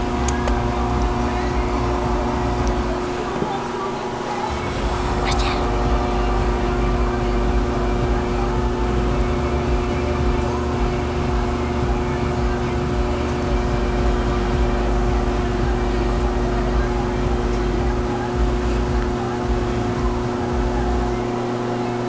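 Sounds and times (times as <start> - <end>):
irregular low rumble: 0.0 - 21.2
small motor humming: 0.0 - 22.0.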